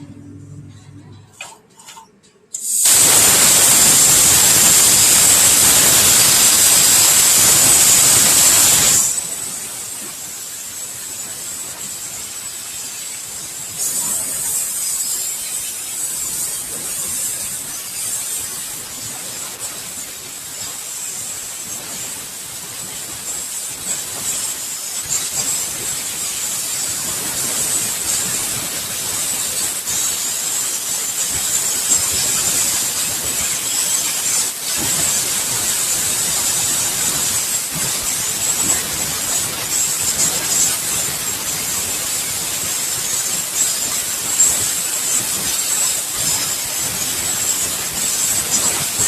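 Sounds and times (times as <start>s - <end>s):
plasma cutter torch hissing: 2.5s - 49.0s.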